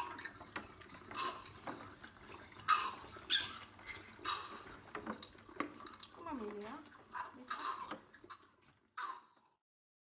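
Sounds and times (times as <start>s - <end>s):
animal sucking from a bottle: 0.0s - 9.6s.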